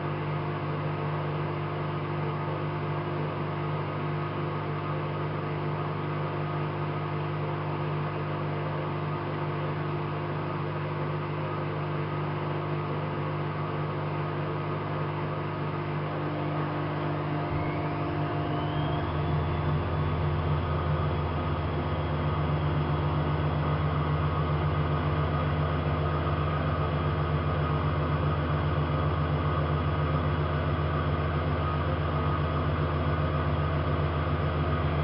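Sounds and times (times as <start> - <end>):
washing machine motor whine: 0.0 - 35.0.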